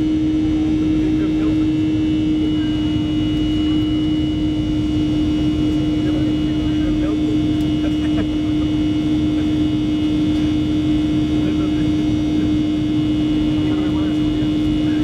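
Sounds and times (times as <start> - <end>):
faint high whine: 0.0 - 15.0
jet engines roaring in cabin: 0.0 - 15.0.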